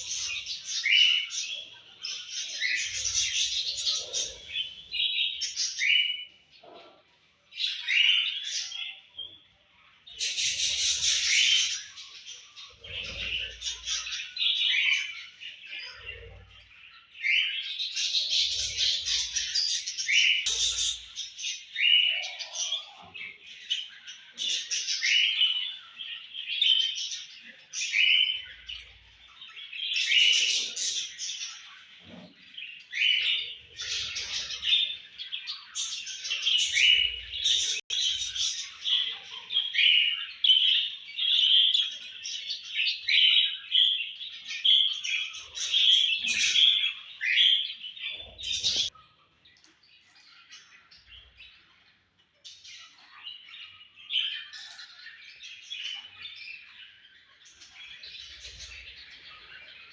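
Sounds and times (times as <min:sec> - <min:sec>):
budgerigars chirping and warbling: 0:00.0 - 0:59.9.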